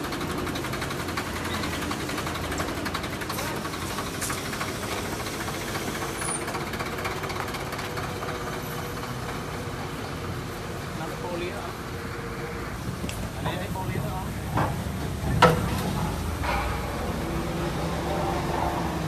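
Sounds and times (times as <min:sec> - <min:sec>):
engine idling with ticking: 0:00.0 - 0:19.0.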